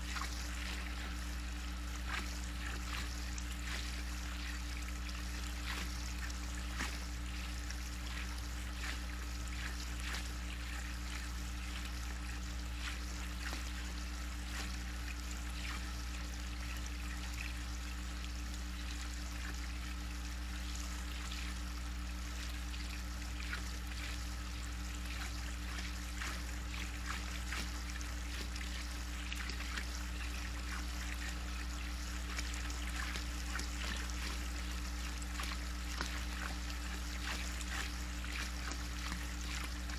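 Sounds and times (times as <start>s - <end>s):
animals splashing in water: 0.0s - 39.9s
steady low hum: 0.0s - 39.9s
water trickling and lapping: 0.0s - 39.9s.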